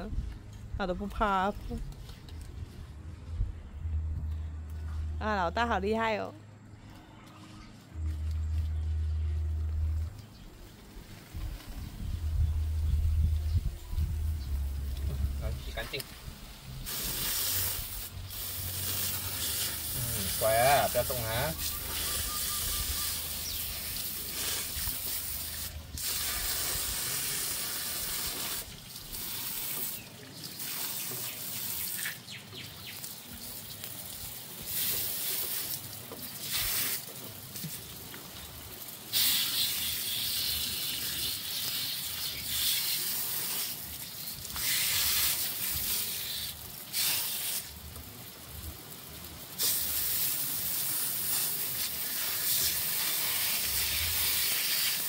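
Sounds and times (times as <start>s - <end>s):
hose nozzle spraying water: 8.0s - 48.5s, 49.4s - 55.0s.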